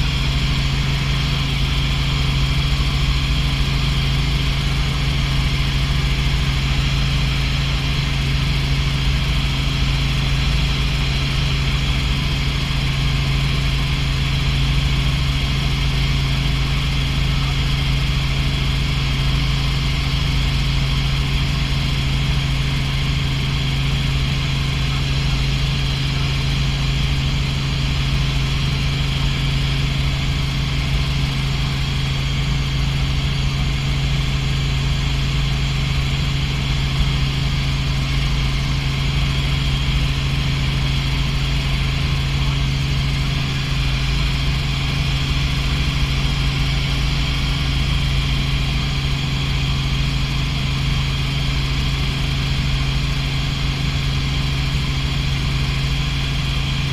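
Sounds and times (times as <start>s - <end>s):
constant low hum: 0.0s - 56.9s
helicopter engine and rotor drone: 0.0s - 56.9s.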